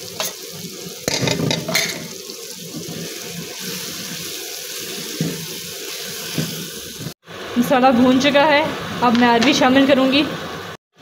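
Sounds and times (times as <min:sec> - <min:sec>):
masala sizzling in oil: 0:00.0 - 0:10.8.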